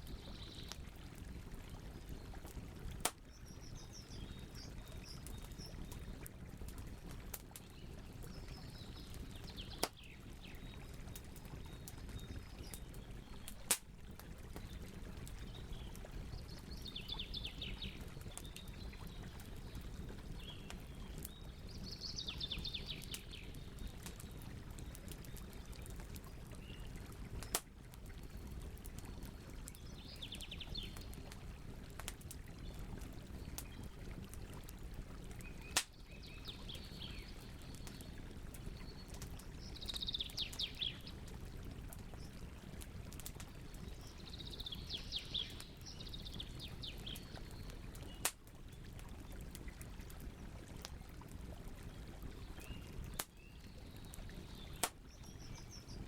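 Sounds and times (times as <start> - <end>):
wood fire crackling: 0.0 - 21.8, 22.9 - 35.9, 37.1 - 44.3, 46.5 - 53.3, 54.2 - 56.0.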